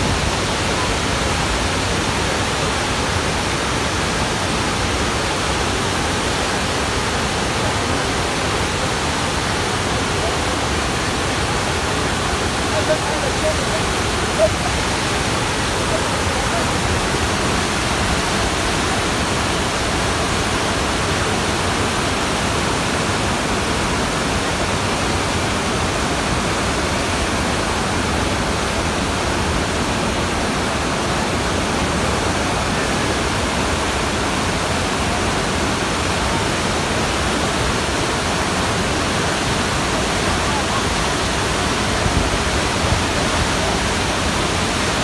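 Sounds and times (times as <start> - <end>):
water rushing over rocks: 0.0 - 45.0.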